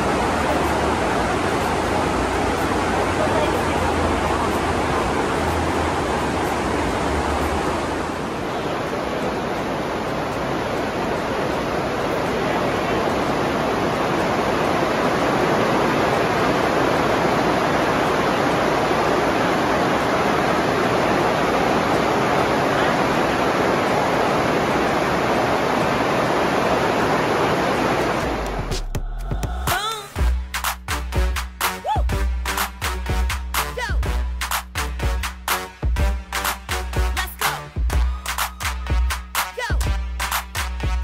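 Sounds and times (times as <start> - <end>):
steady rushing noise: 0.0 - 41.0.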